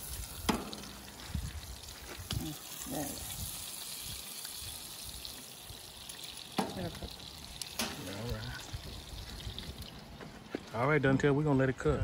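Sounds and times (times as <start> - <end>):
fish sizzling on a grill: 0.0 - 10.9.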